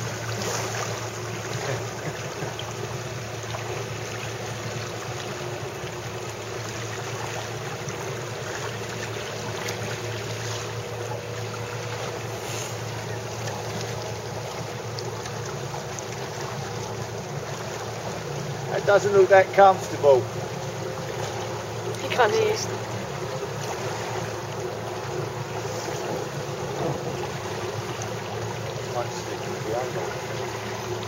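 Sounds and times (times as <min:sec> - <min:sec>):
boat engine humming: 0:00.0 - 0:31.0
water rushing past boat: 0:00.0 - 0:31.0.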